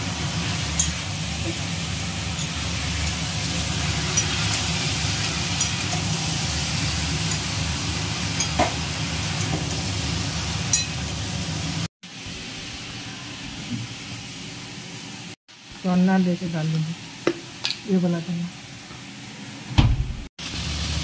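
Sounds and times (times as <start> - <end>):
vegetables sizzling in a pan: 0.0 - 19.7, 20.4 - 21.0.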